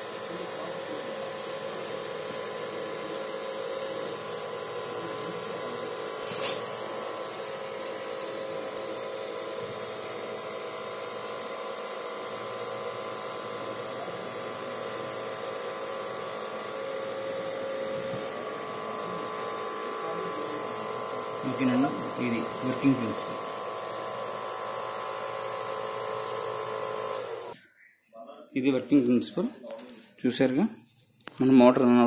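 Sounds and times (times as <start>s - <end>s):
small motors whining: 0.0s - 27.6s.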